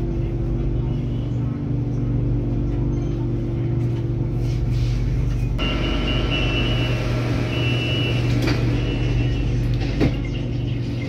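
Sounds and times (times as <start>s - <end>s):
train electric hum: 0.0s - 11.0s.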